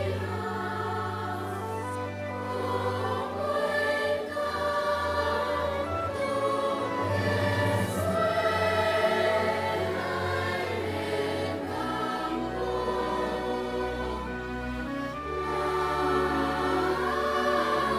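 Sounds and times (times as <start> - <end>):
choir singing held chords: 0.0 - 17.9.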